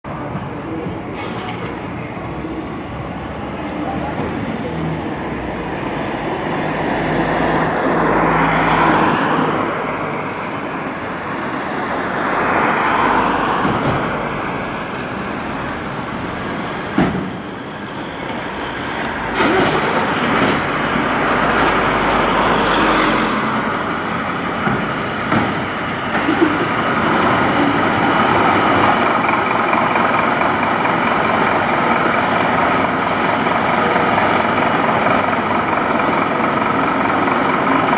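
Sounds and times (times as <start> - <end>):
road traffic passing: 0.0 - 37.9
diesel engines idling: 0.1 - 37.9.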